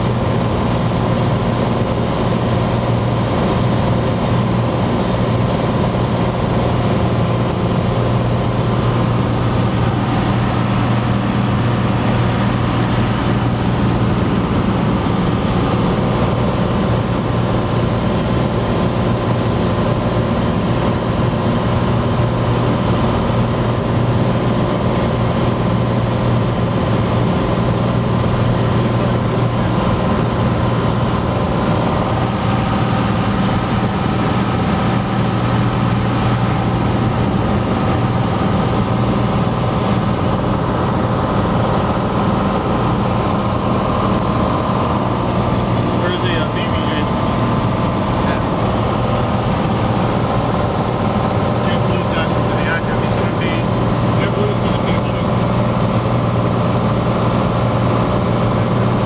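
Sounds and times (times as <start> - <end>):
airplane engine droning: 0.0 - 59.0.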